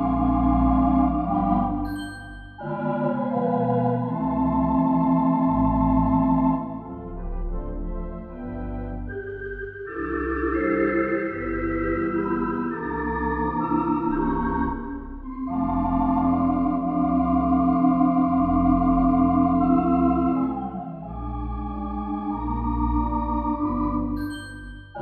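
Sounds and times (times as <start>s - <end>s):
theatre pipe organ playing: 0.0s - 1.9s, 2.6s - 24.2s.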